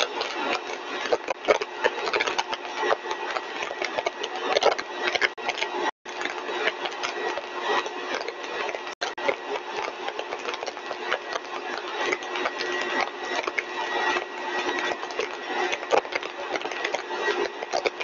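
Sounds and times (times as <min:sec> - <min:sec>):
compressor mechanical whirr: 0:00.0 - 0:18.0.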